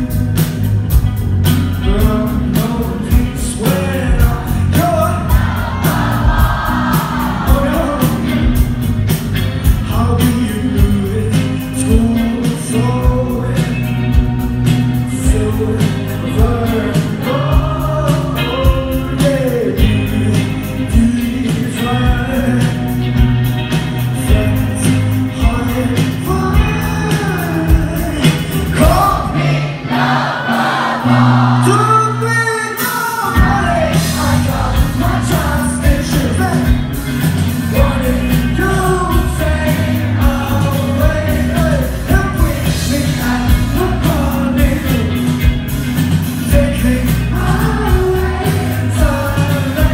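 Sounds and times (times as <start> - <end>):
electric guitar: 0.0 - 30.2, 31.0 - 49.9
bass guitar: 0.0 - 49.9
drum kit: 0.0 - 49.9
person singing: 1.8 - 8.7, 15.0 - 23.0, 24.0 - 45.6, 46.3 - 49.9.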